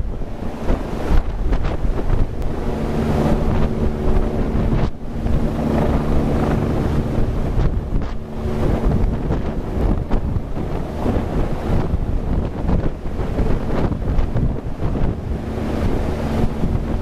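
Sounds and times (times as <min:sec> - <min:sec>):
wind noise on microphone: 0:00.0 - 0:17.0
helicopter engine and rotor drone: 0:00.2 - 0:17.0.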